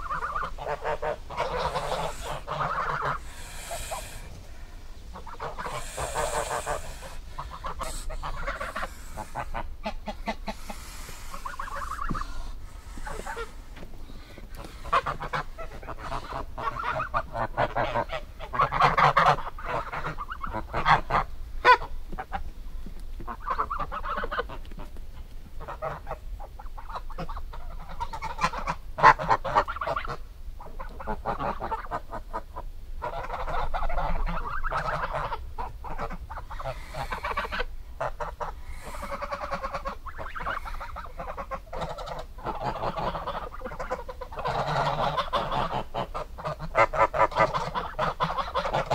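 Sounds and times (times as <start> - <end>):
geese honking: 0.0 - 22.3, 23.3 - 24.6, 25.6 - 48.9.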